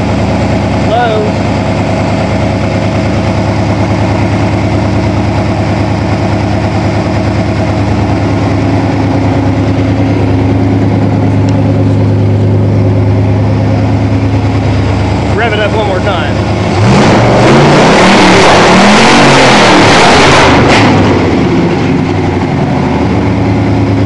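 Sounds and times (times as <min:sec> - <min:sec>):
engine idling: 0:00.0 - 0:19.0, 0:20.4 - 0:24.0.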